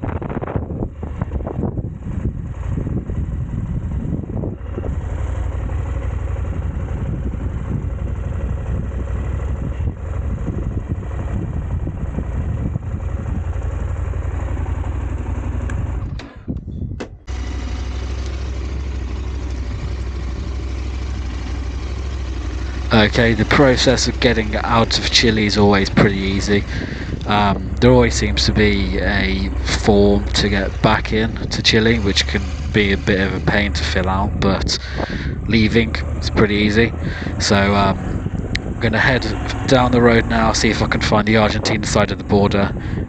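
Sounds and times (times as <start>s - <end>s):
motorcycle engine rumbling: 0.0s - 43.0s.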